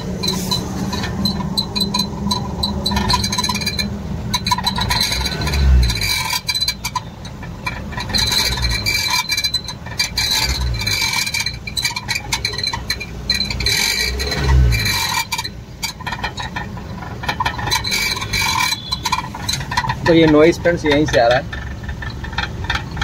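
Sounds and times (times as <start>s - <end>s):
car engine surging: 0.0s - 23.0s
exhaust silencer rattling against metal: 0.0s - 23.0s.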